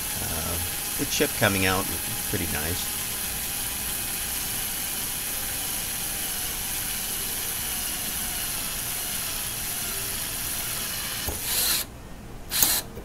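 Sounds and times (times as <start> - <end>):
power drill cutting metal: 0.0 - 11.9, 12.5 - 12.9.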